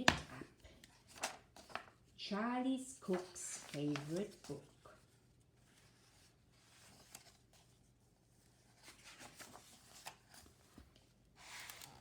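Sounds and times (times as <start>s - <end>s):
book pages rustling: 0.0s - 2.1s, 3.0s - 12.0s.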